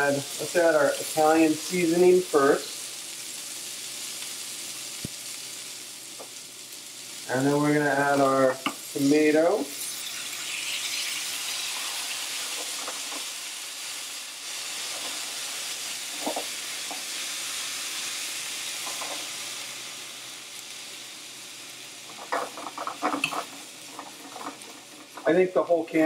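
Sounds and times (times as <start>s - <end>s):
tomatoes sizzling in a skillet: 0.0s - 26.0s.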